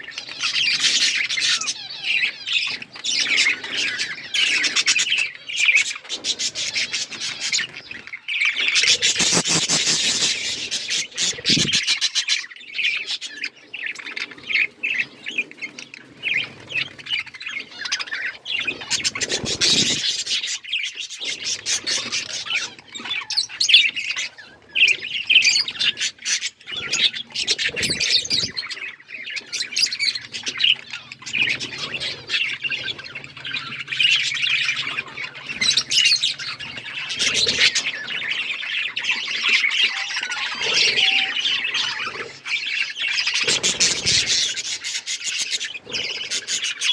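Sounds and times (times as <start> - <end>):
budgerigars chirping and chattering: 0.0 - 46.9.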